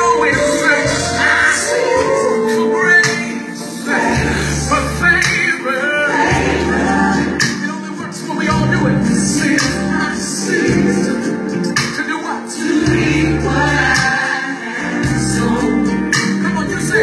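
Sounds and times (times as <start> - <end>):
loud music with singing: 0.0 - 17.0.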